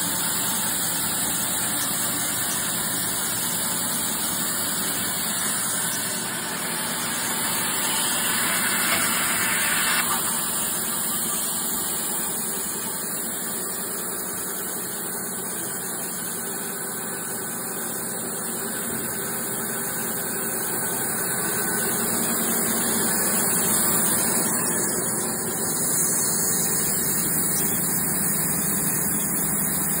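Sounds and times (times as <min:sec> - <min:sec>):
band saw mill running: 0:00.0 - 0:30.0.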